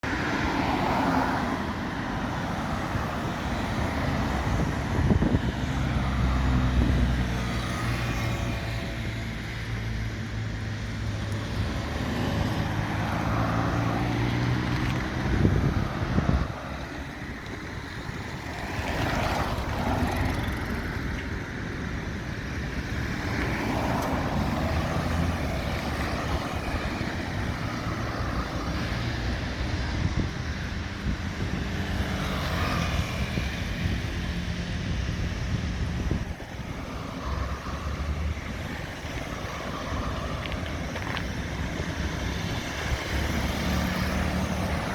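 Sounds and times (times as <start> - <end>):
passing traffic engine noise: 0.0 - 44.9.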